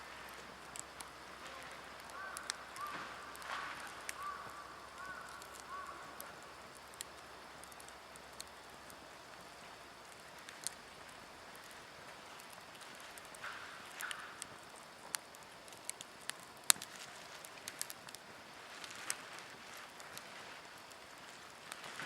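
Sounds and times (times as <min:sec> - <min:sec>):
wood fire hissing and crackling: 0:00.0 - 0:22.0.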